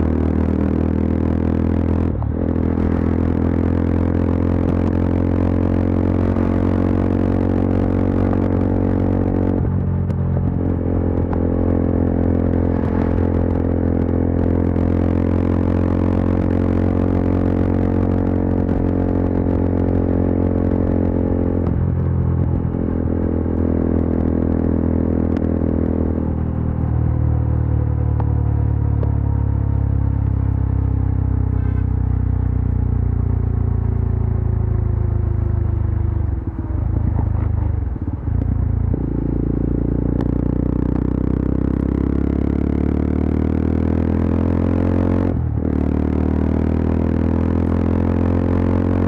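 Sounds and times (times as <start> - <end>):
motorcycle engine and exhaust: 0.0 - 49.0.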